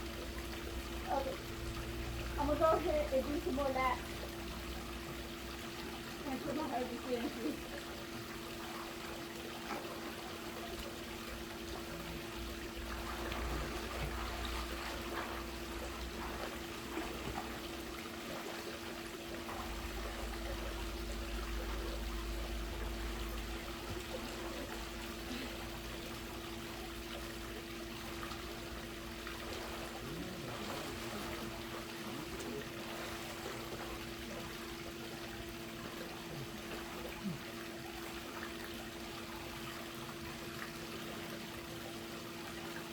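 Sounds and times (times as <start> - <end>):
pool water trickling and lapping: 0.0 - 42.9
steady low hum: 0.0 - 42.9.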